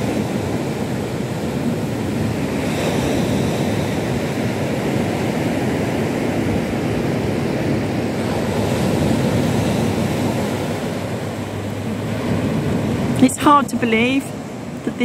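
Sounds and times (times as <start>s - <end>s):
waves breaking on beach: 0.0s - 15.0s
wind rumbling on microphone: 0.0s - 15.0s.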